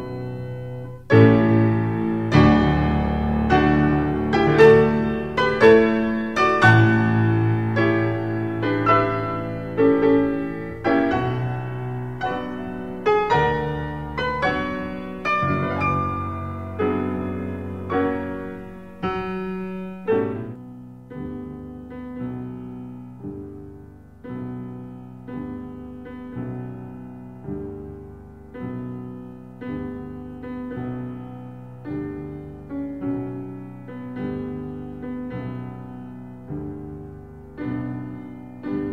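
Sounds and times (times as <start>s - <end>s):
slow solo piano: 0.0s - 38.9s.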